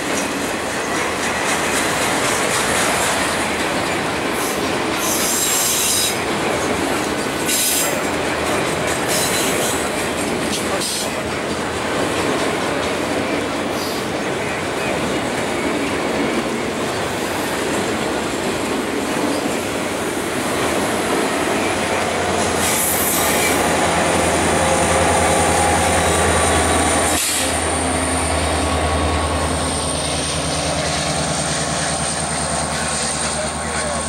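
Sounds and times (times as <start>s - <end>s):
diesel locomotive droning: 0.0s - 34.0s
freight train wheel noise: 0.0s - 34.0s.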